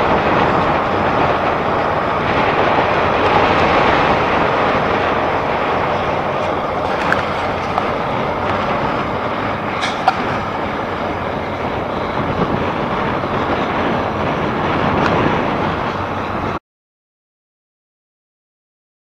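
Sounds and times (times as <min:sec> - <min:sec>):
diesel engines running: 0:00.0 - 0:16.6.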